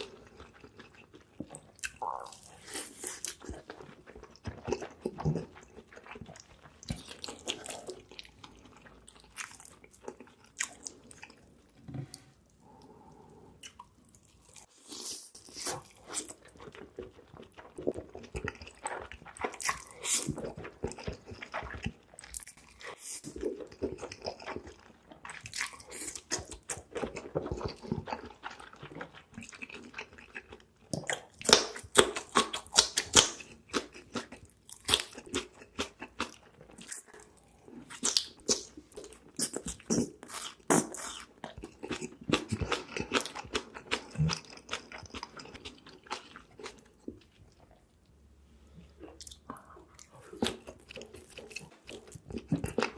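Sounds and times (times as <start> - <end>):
person chewing and biting food: 0.0 - 11.4, 13.6 - 47.8, 48.6 - 52.9.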